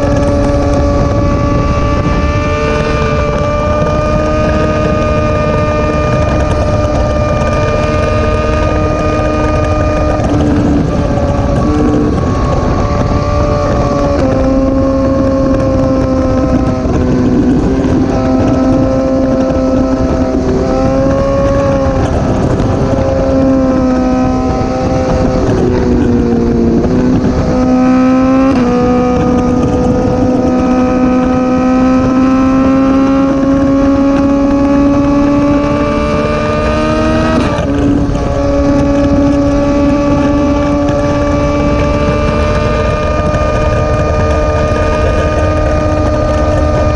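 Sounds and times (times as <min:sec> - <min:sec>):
motorcycle engine running: 0:00.0 - 0:46.9
wind rushing over microphone: 0:00.0 - 0:46.9.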